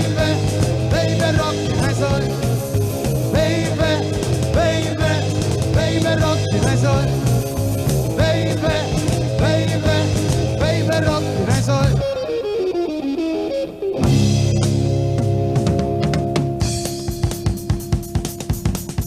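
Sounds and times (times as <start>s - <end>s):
bass and drums: 0.0s - 12.1s, 14.0s - 19.0s
lead guitar bending lines: 0.0s - 17.0s.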